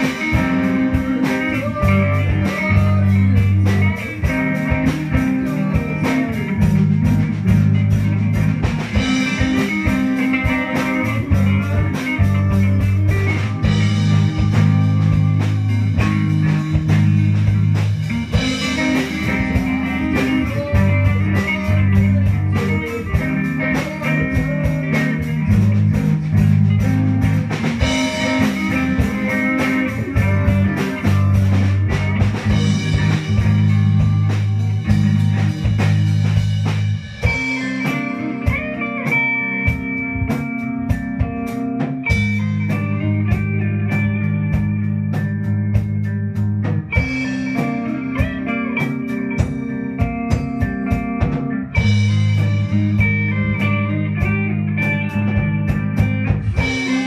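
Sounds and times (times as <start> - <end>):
bass guitar low notes: 0.0 - 57.0
slow rock song electric guitars: 0.0 - 57.0.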